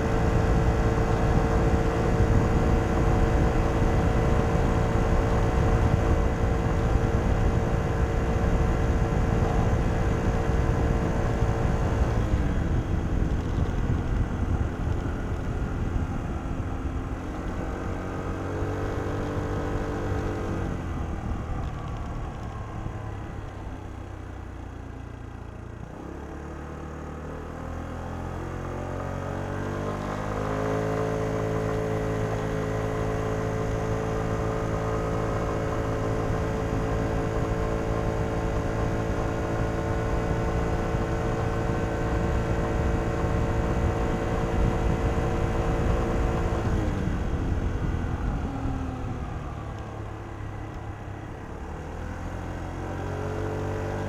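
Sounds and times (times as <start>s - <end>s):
scooter engine accelerating: 0.0s - 24.0s, 24.9s - 54.0s.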